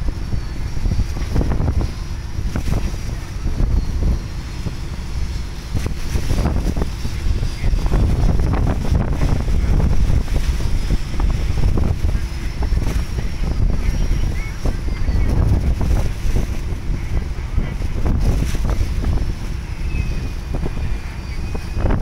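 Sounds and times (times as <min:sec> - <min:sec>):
rough sea noise: 0:00.0 - 0:22.0
wind buffeting microphone: 0:00.0 - 0:22.0.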